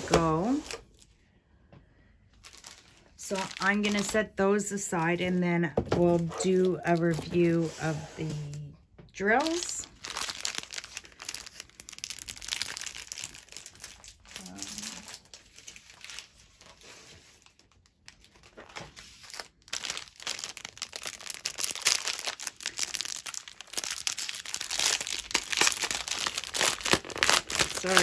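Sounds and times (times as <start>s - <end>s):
plastic bags crinkling: 2.4s - 8.6s, 9.2s - 28.0s.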